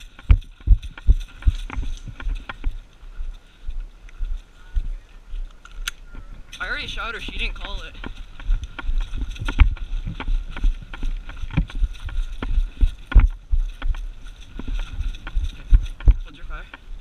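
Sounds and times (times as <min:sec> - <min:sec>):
wind on camera: 0:00.0 - 0:17.0.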